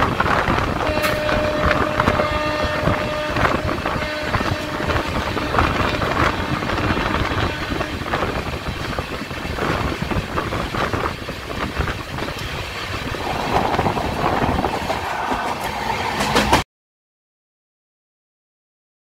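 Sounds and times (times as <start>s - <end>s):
rushing air: 0.0s - 16.6s
train wheels clickety-clack: 0.0s - 16.6s.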